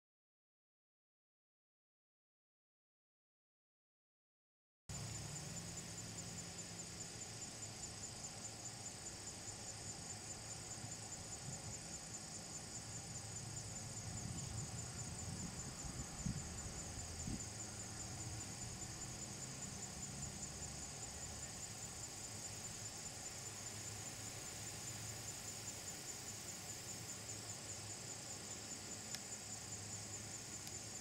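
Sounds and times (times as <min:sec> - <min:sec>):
insects trilling in trees: 0:04.9 - 0:31.0.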